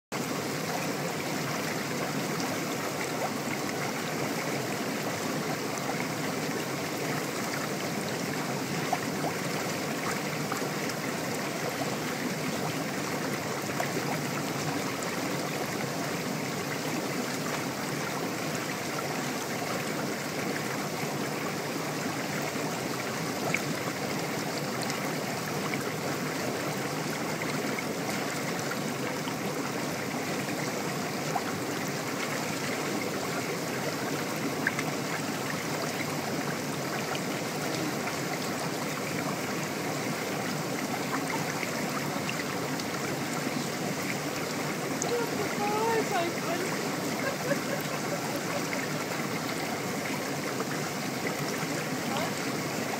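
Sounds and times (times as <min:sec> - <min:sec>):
hot tub jets bubbling: 0:00.1 - 0:52.9.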